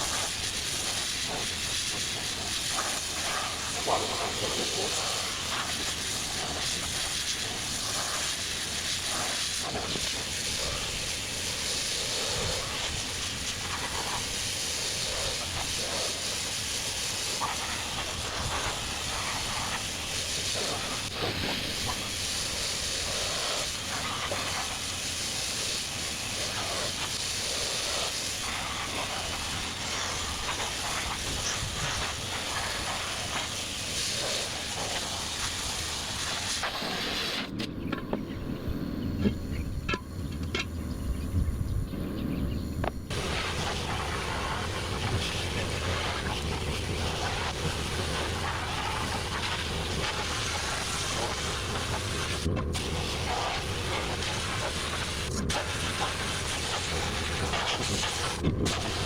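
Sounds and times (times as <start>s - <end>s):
sandblaster hissing: 0.0s - 59.0s.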